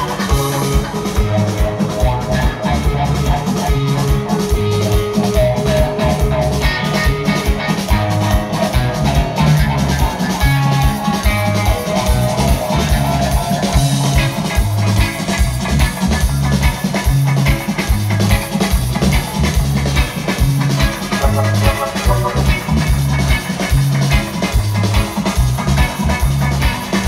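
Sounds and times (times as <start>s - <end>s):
heavy repeating bass line: 0.0s - 27.0s
live reggae band playing: 0.0s - 27.0s.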